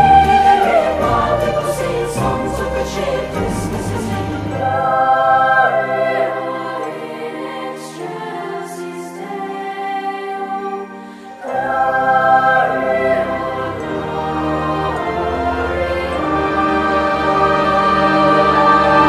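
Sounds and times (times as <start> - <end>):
choir holding long chords: 0.0 - 19.0.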